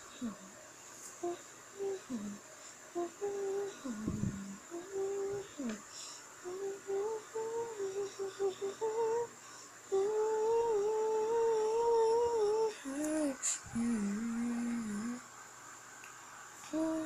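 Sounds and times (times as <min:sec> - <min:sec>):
person humming: 0:00.0 - 0:00.5, 0:01.2 - 0:15.2, 0:16.7 - 0:17.0.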